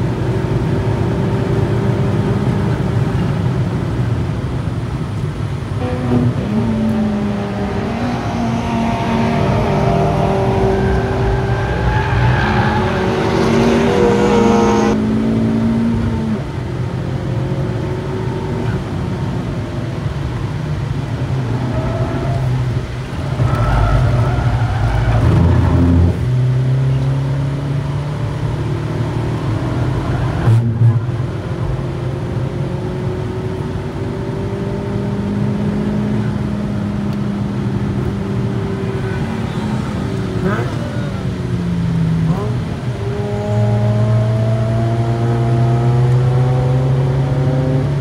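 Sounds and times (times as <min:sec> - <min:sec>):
car engine pulling hard: 0:00.0 - 0:48.0.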